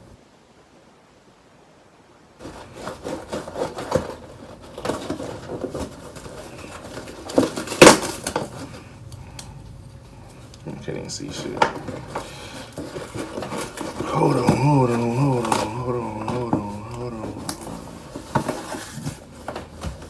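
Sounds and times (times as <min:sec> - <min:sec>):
packaging rubbing and scraping: 0:02.4 - 0:20.0.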